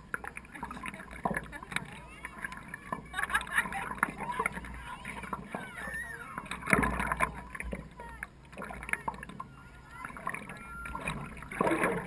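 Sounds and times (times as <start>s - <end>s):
paddle stroke splashes: 0.0s - 12.0s
water lapping against paddleboard: 0.0s - 12.0s.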